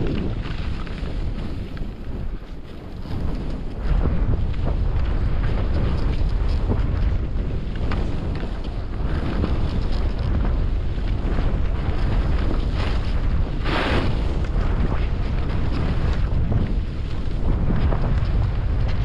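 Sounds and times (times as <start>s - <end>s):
skis scraping over snow: 0.0s - 19.0s
wind buffeting microphone: 0.0s - 19.0s.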